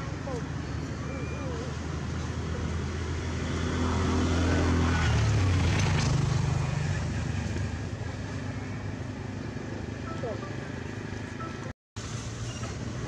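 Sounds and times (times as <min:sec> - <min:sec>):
vehicle engine passing: 0:00.0 - 0:12.4.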